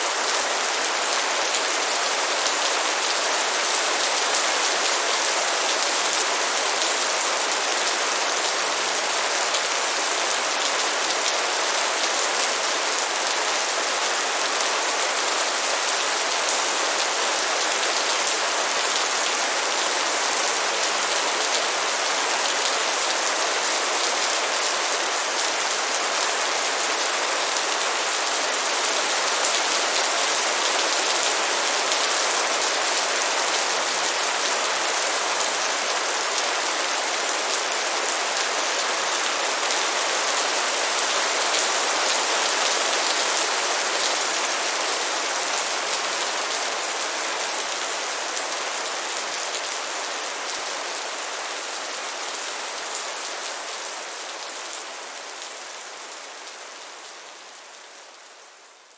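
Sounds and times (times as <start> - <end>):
light rain falling: 0.0 - 58.9.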